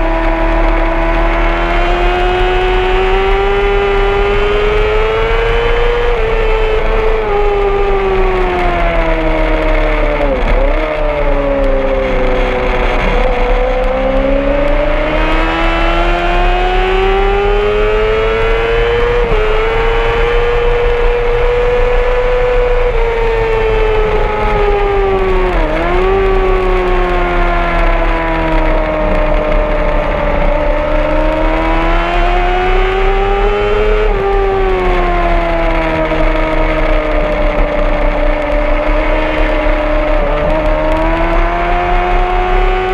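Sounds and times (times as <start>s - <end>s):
sport bike engine at high revs: 0.0s - 42.9s.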